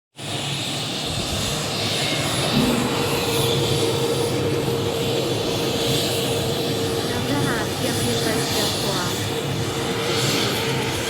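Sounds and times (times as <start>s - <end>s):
aircraft engine roaring overhead: 0.2s - 11.0s.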